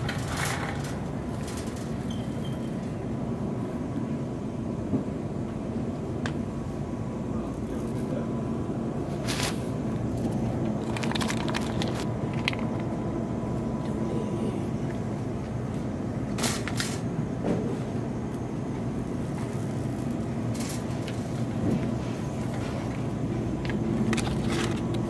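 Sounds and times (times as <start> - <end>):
low rumble and hum: 0.0 - 25.0.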